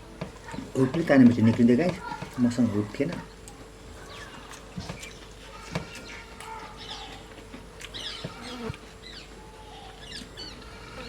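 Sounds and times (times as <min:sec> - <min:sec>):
faint steady hum: 0:00.0 - 0:11.0
small birds chirping: 0:01.9 - 0:11.0.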